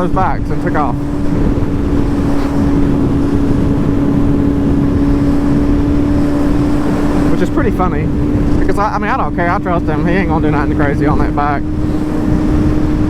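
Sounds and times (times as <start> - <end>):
motorcycle engine cruising: 0.0 - 13.0
wind rushing: 0.0 - 13.0.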